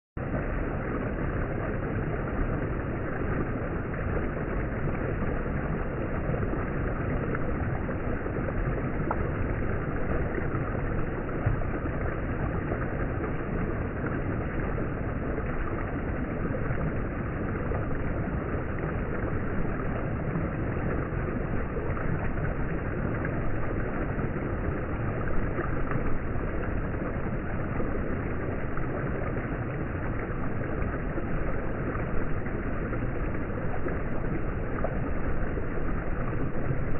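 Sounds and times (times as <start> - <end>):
stream water rushing over rocks: 0.2 - 36.9.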